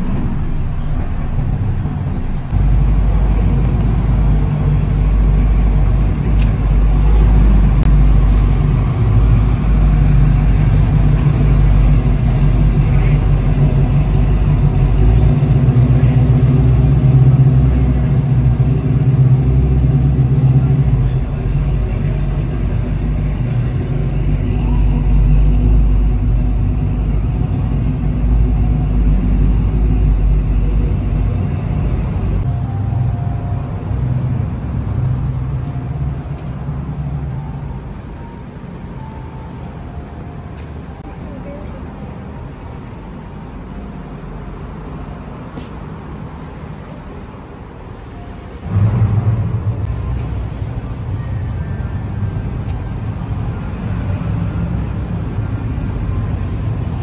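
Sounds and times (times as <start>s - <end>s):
car engine rumbling past: 0.0s - 38.4s, 48.4s - 57.0s.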